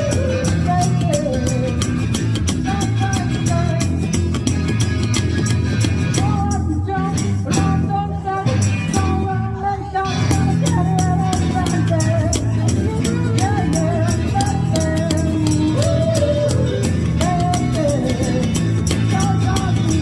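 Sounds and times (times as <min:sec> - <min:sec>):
male singer: 0:00.0 - 0:04.4, 0:06.1 - 0:20.0
drums keeping steady beat: 0:00.0 - 0:08.0, 0:10.2 - 0:20.0
guitar: 0:00.0 - 0:20.0
strong bass line: 0:00.0 - 0:20.0.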